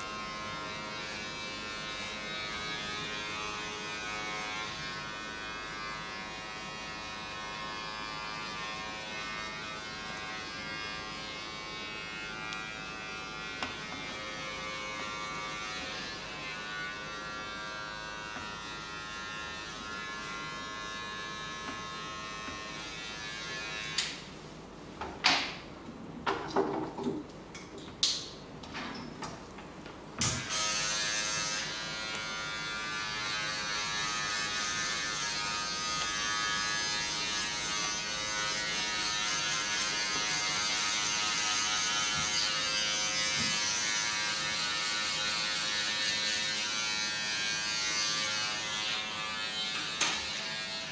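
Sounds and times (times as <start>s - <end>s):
electric buzz: 0.0s - 24.3s, 30.2s - 50.9s.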